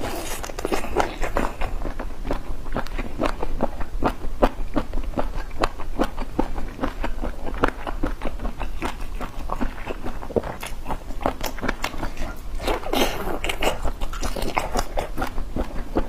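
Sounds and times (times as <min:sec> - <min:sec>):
close chewing clicks: 0:00.0 - 0:16.0.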